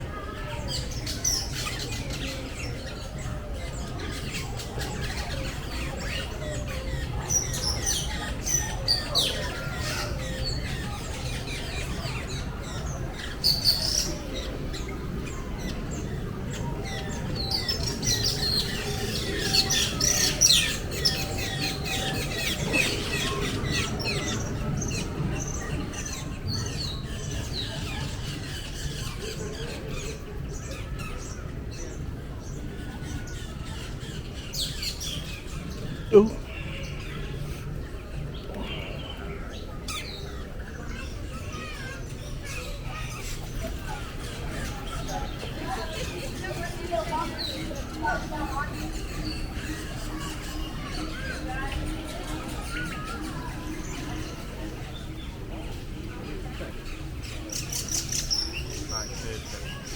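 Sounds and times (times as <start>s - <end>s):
birds chirping and squawking: 0.2s - 59.9s.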